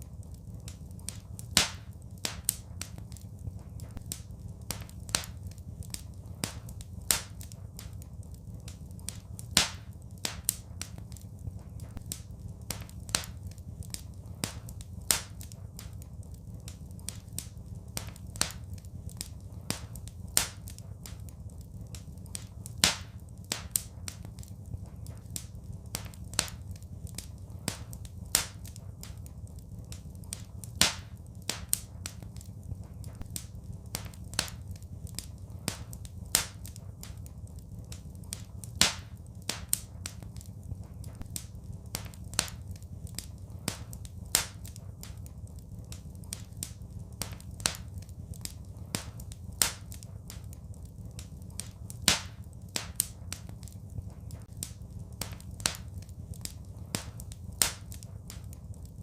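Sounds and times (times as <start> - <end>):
steady low rumble: 0.0 - 59.0
wood fire crackling: 0.0 - 59.0
sharp pops and snaps: 0.2 - 59.0.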